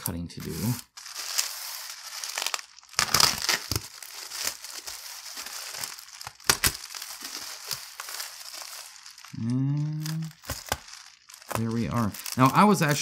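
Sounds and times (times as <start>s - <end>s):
packaging crinkling: 0.4s - 13.0s.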